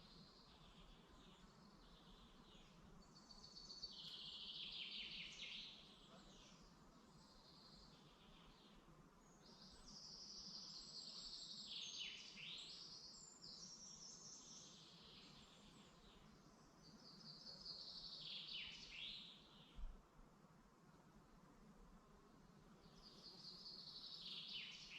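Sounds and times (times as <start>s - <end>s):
faint songbirds singing: 0.0s - 24.9s.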